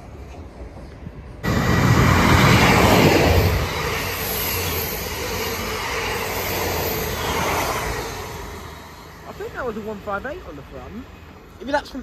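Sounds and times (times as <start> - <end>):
diesel train passing at speed: 0.0 - 12.0.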